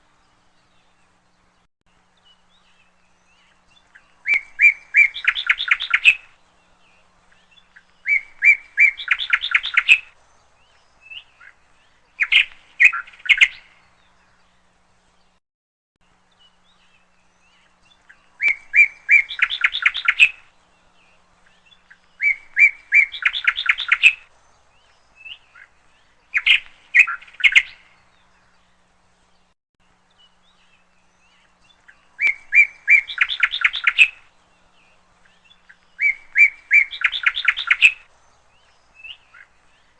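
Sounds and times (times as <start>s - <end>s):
songbird singing with rapid trill: 0.0s - 15.4s, 16.0s - 39.9s.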